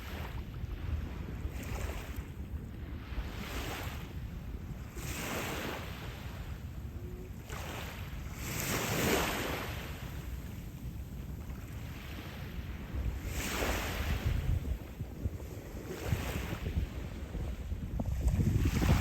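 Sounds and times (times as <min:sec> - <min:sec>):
small waves washing on beach: 0:00.0 - 0:19.0
wind rumble on microphone: 0:00.0 - 0:19.0.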